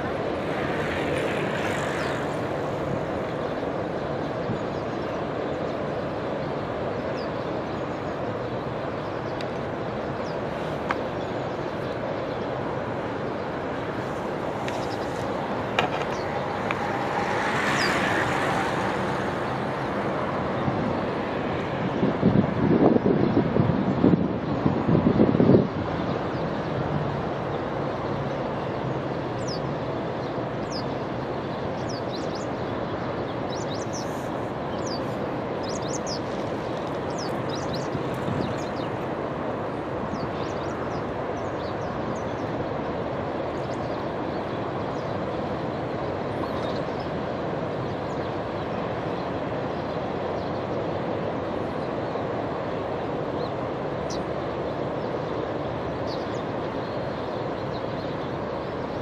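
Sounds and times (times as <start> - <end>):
rushing outdoor background: 0.0 - 59.0.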